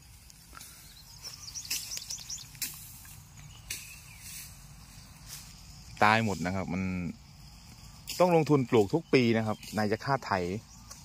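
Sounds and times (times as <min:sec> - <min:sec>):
dry grass crunching and rustling: 0:00.0 - 0:11.0
small bird chirping: 0:00.0 - 0:11.0.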